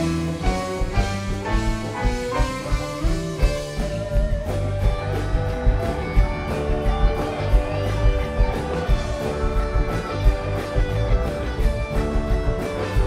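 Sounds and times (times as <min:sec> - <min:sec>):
bass guitar: 0:00.0 - 0:13.0
electric guitars: 0:00.0 - 0:13.0
keyboards: 0:00.0 - 0:13.0
steady drum beat: 0:00.0 - 0:13.0.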